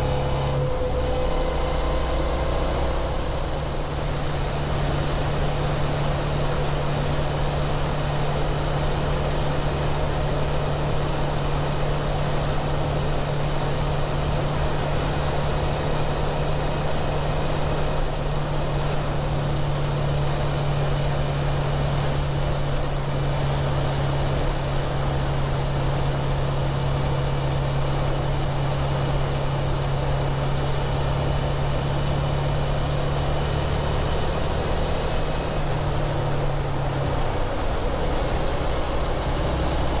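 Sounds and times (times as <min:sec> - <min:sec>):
motorcycle engine running steadily: 0:00.0 - 0:40.0.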